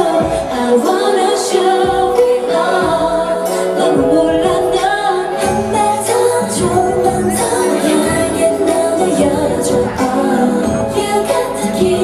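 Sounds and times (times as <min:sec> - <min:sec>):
pop song with female vocals: 0:00.0 - 0:12.0.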